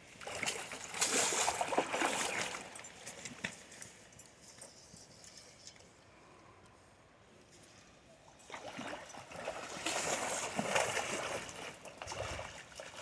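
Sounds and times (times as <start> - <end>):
water splashing and sloshing: 0.0 - 6.3, 7.4 - 13.0.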